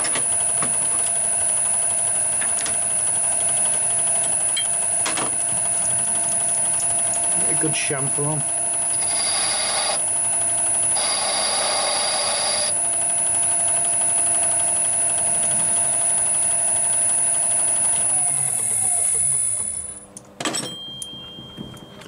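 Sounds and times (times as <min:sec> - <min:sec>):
lathe motor winding down: 0:00.0 - 0:20.1
metal lathe whining: 0:00.0 - 0:20.1.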